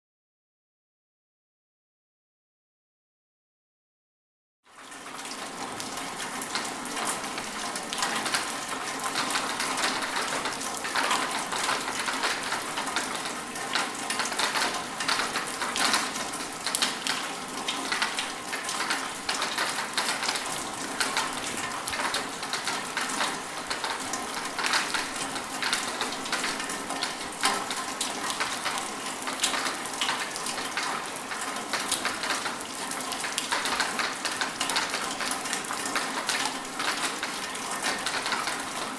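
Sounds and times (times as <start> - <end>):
rain falling: 4.8 - 38.9.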